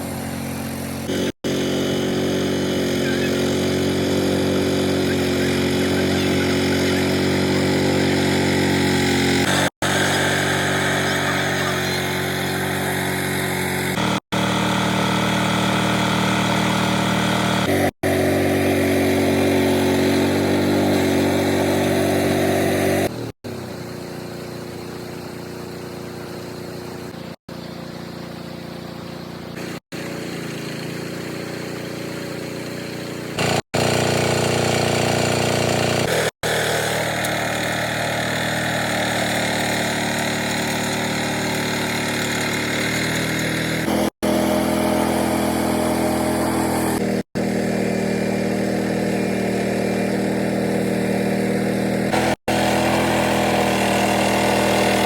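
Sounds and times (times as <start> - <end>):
harvester engine running: 0.0 - 55.0.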